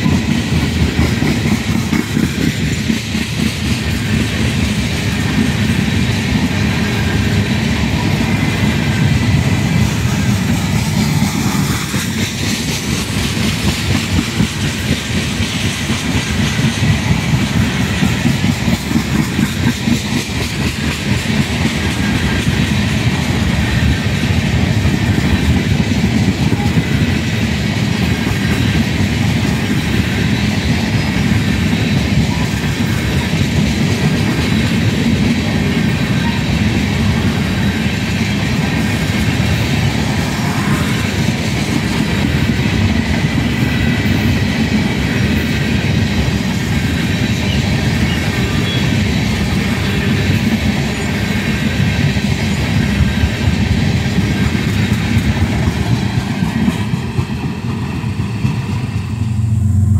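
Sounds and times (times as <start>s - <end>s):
steel wheels clicking on rails: 0.0s - 59.5s
freight train rumbling past: 0.0s - 59.9s.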